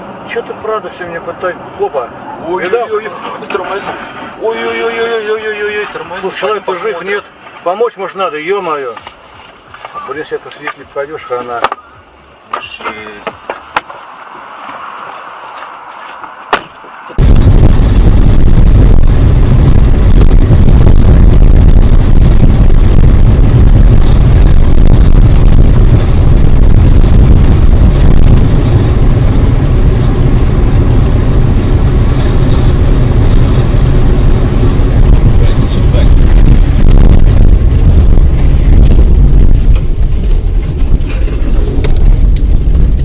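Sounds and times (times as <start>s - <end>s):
vehicle rumble: 0.0s - 43.0s.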